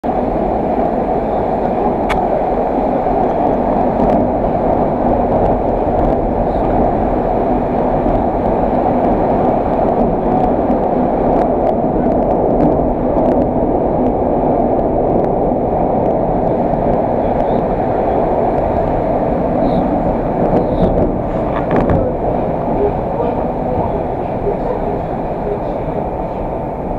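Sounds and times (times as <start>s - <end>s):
train rumbling from inside carriage: 0.0s - 26.9s.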